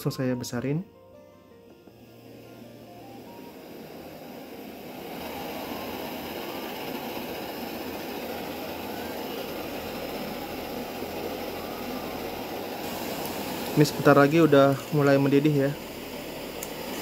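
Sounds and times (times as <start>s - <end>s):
gas stove burner roar: 1.6s - 17.0s.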